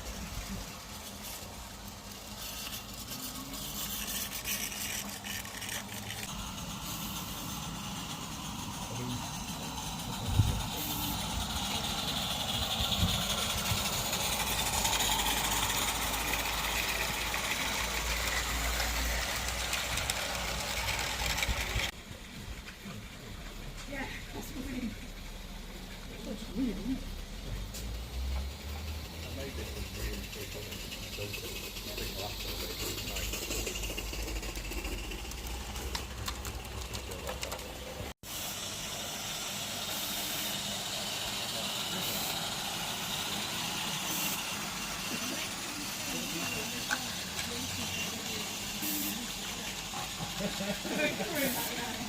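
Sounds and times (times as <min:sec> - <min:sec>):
steam locomotive hissing and rumbling: 0:00.0 - 0:52.0.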